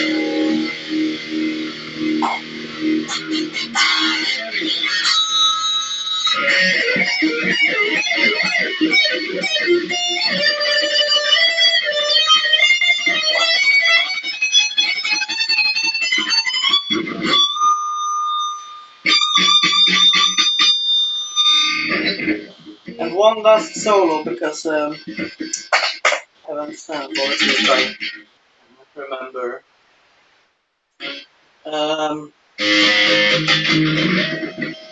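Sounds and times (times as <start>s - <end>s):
fast electric guitar solo: 0.0s - 18.4s, 19.0s - 26.0s, 27.0s - 28.2s, 32.6s - 34.9s.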